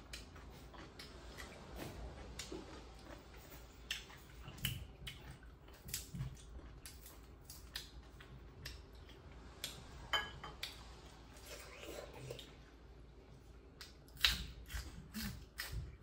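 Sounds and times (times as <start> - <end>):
chewing and wet mouth sounds: 0.0 - 16.0.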